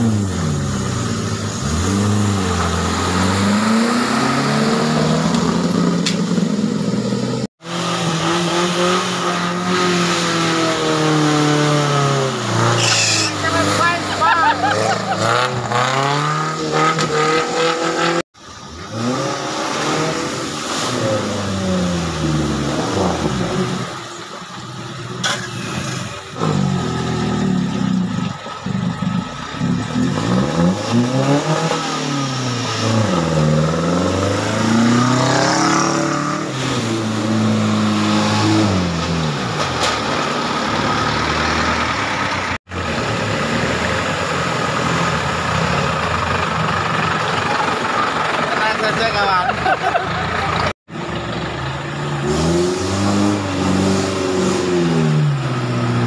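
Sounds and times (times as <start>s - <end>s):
off-road engines revving: 0.0s - 56.0s.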